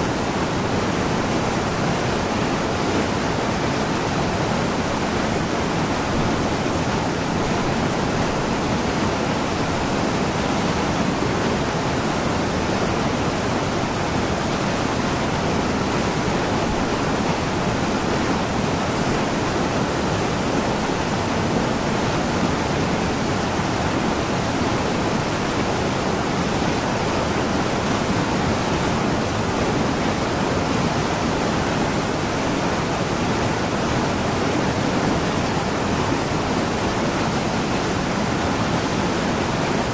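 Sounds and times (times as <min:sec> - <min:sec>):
water rushing over boulders: 0:00.0 - 0:39.9.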